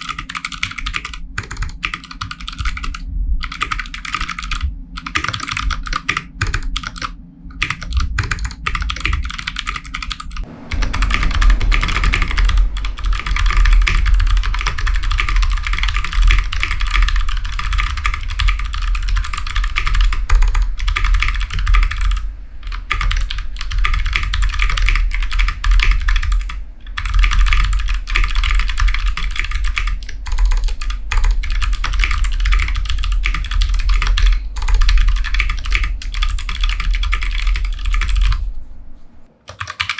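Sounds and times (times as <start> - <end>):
rapid mechanical keyboard clicks: 0.0 - 38.4, 39.4 - 39.9.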